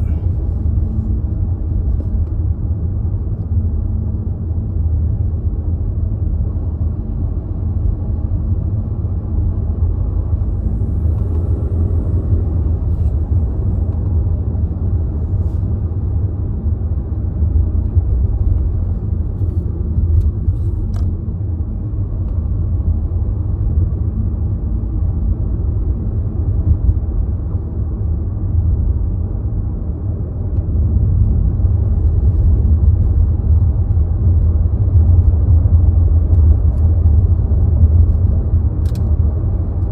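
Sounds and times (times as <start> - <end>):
car interior rumble: 0.0 - 39.9.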